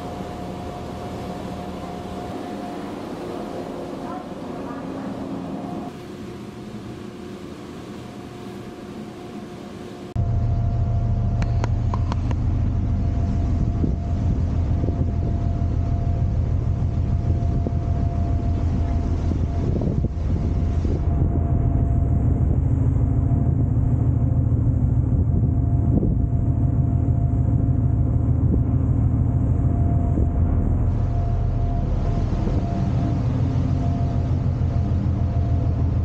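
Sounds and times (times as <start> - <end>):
faint steady whine: 0.0 - 36.0
ferry engine drone: 0.0 - 36.0
wake rushing along hull: 0.0 - 36.0
wind: 0.0 - 36.0.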